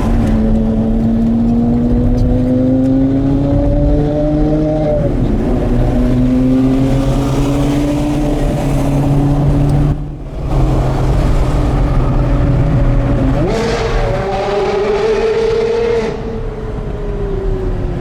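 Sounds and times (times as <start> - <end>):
sports car engine revving through gears: 0.0 - 16.9.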